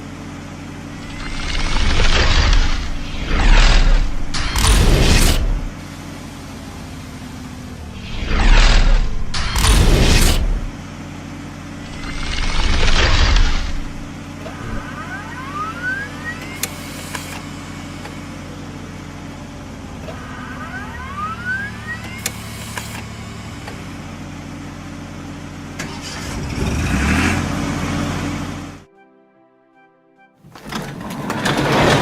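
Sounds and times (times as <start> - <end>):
cartoon truck engine: 0.0 - 28.9, 30.4 - 32.0
rising whine: 0.8 - 6.0, 7.7 - 28.9.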